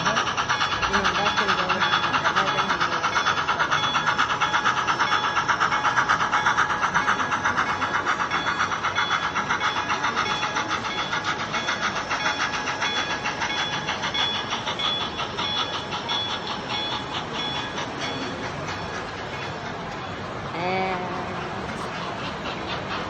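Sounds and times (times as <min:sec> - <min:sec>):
model train clicking: 0:00.0 - 0:23.0.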